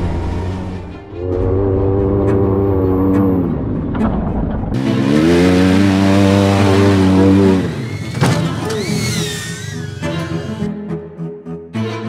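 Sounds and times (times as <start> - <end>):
mini truck engine revving: 0.0 - 10.7.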